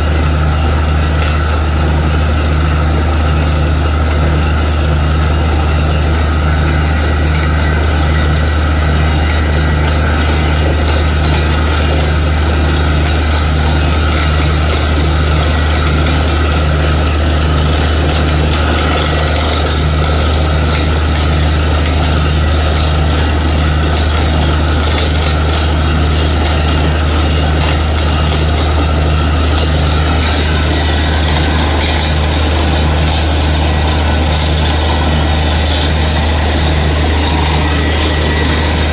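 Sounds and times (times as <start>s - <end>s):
drilling rig running: 0.0s - 38.9s.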